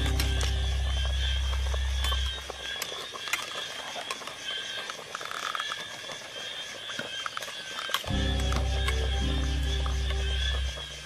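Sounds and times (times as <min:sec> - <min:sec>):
high-pitched animal chorus: 0:00.0 - 0:11.0.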